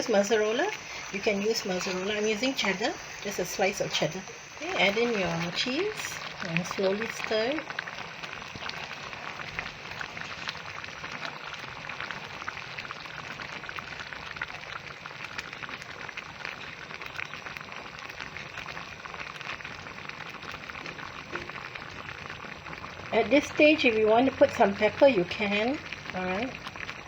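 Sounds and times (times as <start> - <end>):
sauce simmering with bubbles: 0.0 - 27.0.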